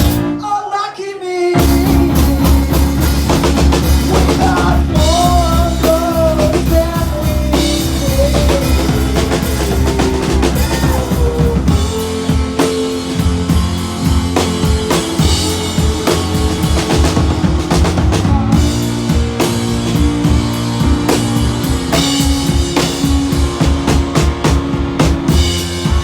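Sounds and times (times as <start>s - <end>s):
drum kit kick and snare: 0.0s - 0.3s, 1.6s - 26.0s
live rock band playing: 0.0s - 0.4s, 1.6s - 26.0s
person singing: 0.1s - 24.2s.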